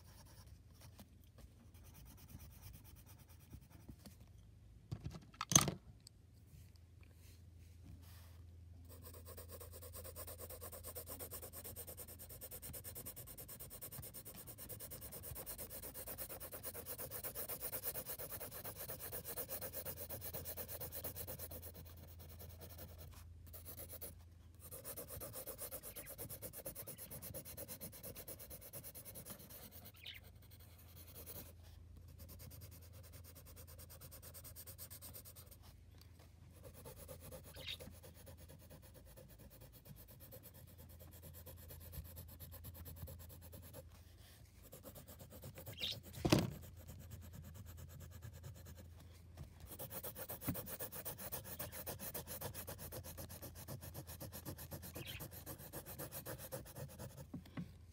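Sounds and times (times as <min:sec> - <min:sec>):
pencil scratching on paper: 0:00.0 - 0:01.1, 0:01.7 - 0:04.1, 0:08.8 - 0:35.7, 0:36.5 - 0:49.0, 0:49.6 - 0:57.4.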